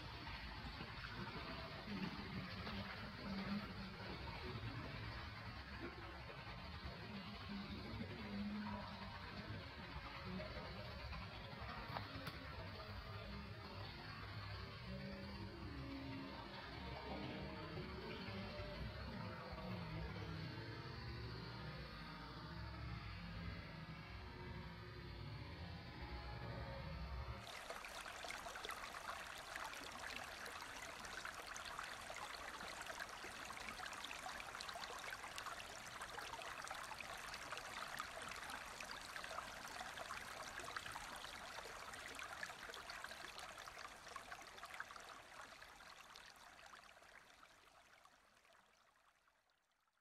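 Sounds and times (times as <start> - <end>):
trickle of running water: 0.0 - 23.1, 27.4 - 49.9.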